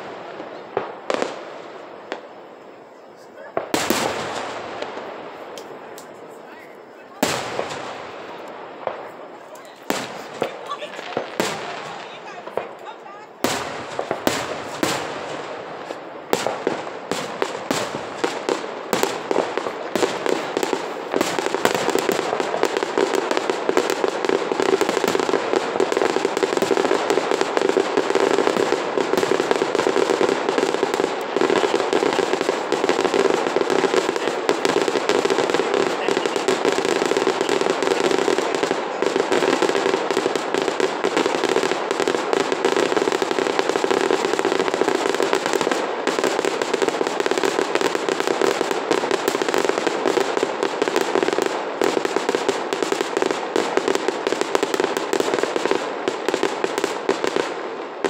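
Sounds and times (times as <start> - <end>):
rapid firework barrage: 0.0 - 2.3, 3.4 - 6.0, 7.0 - 58.0.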